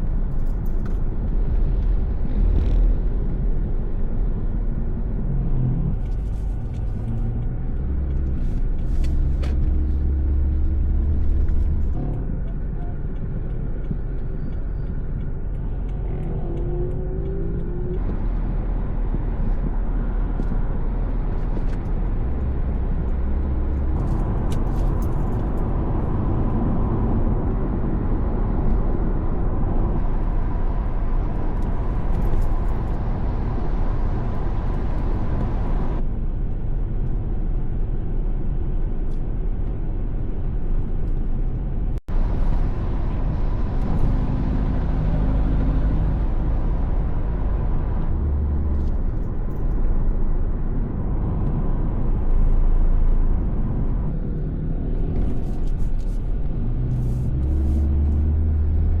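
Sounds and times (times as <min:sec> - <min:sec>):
car driving rumble: 0:00.0 - 0:59.0.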